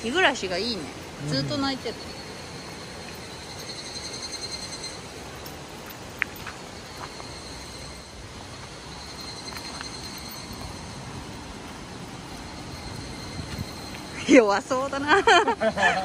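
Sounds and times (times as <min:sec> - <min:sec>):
background hiss: 0:00.0 - 0:16.0
cicadas singing: 0:00.0 - 0:16.0.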